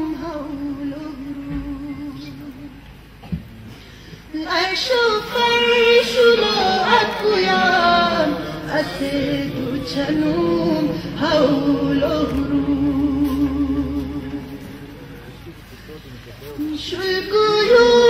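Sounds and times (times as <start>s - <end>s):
woman singing into a microphone: 0.0s - 2.9s, 4.2s - 15.0s, 16.6s - 18.0s.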